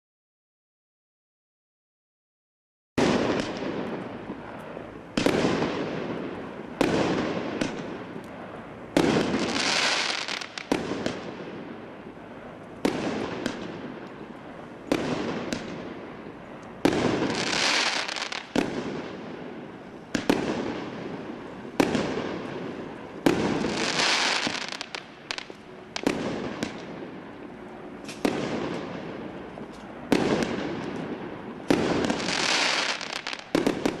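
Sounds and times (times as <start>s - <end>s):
crackling firework tail: 3.0s - 34.0s.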